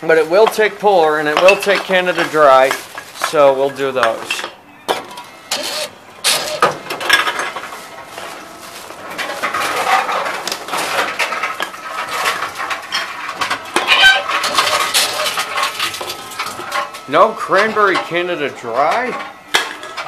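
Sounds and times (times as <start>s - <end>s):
aluminium cans clinking: 0.1s - 20.0s.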